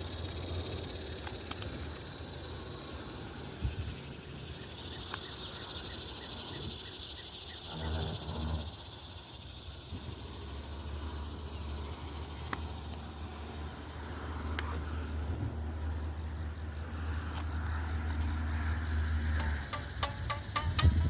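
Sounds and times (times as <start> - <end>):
high-pitched insect chorus: 0.0 - 21.0
low engine-like hum: 0.0 - 21.0
outdoor ambience: 0.0 - 21.0.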